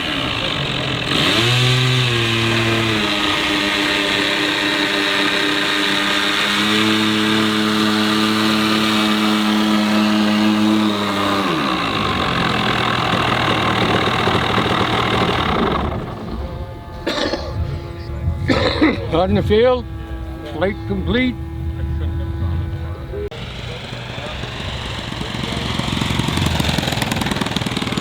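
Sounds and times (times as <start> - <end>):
model airplane engine running: 0.0 - 28.0.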